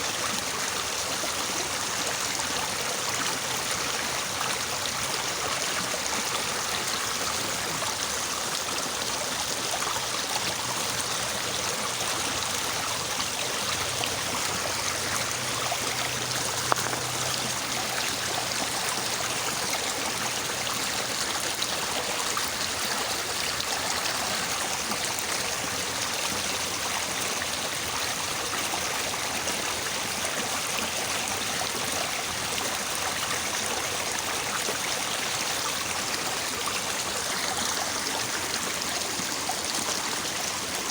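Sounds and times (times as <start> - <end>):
river babbling: 0.0 - 40.9.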